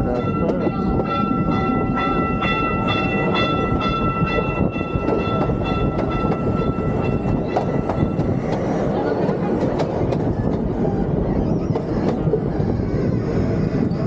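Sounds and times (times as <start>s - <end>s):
ride train rumbling on track: 0.0s - 14.0s.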